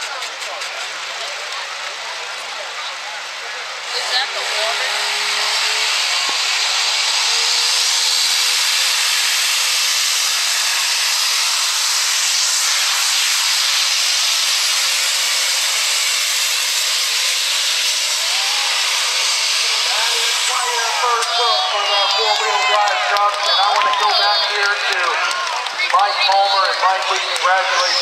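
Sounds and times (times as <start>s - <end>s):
turbo and exhaust hissing rush: 3.6s - 28.0s.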